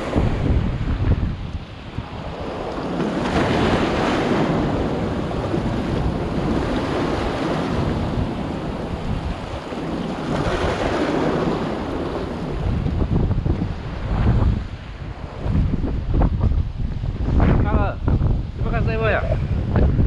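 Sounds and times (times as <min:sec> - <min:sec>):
waves washing against seawall: 0:00.0 - 0:20.0
wind buffeting microphone: 0:00.0 - 0:20.0.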